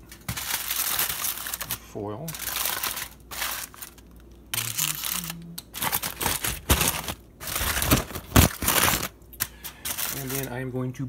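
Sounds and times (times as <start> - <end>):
aluminium foil crinkling: 0.0 - 10.8.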